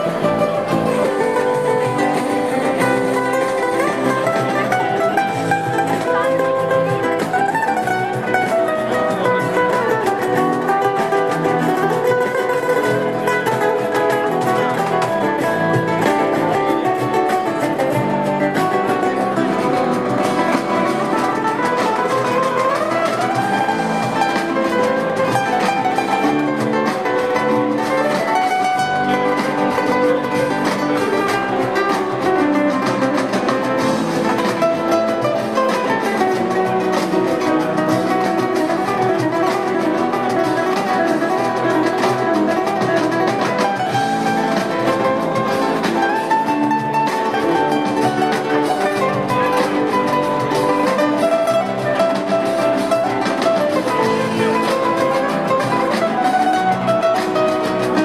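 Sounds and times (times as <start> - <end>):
acoustic guitar plucked melody: 0.0 - 58.0
cajon drumming: 0.0 - 58.0.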